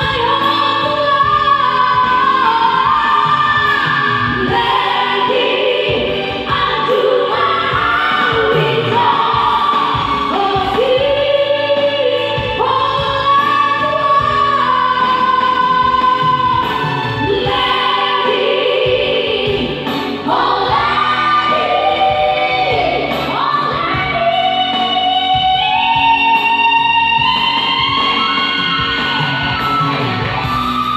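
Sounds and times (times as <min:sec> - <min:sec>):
musical accompaniment: 0:00.0 - 0:30.9.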